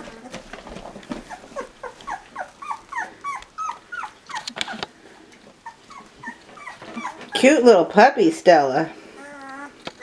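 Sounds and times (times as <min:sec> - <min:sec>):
puppies whimpering: 0:00.0 - 0:07.6, 0:09.0 - 0:10.0.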